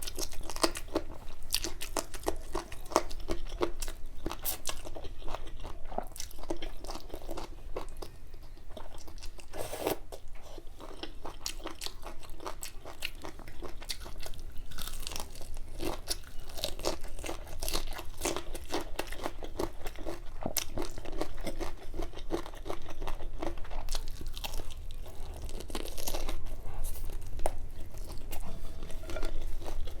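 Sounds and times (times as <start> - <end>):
person chewing crunchy food: 0.0 - 30.0.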